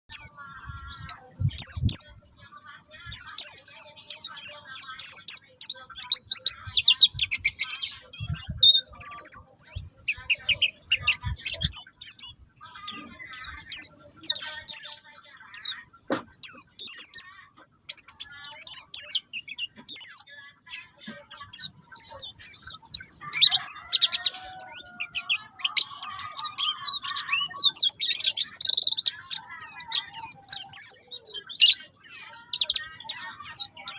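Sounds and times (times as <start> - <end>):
bird twittering high chirps: 0.1 - 33.9.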